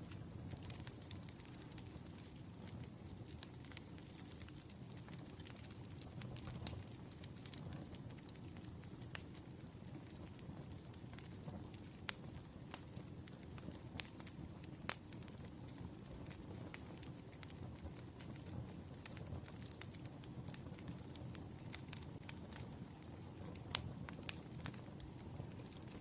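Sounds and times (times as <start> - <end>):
fire rumbling: 0.0 - 26.0
firewood crackling and popping: 0.0 - 26.0.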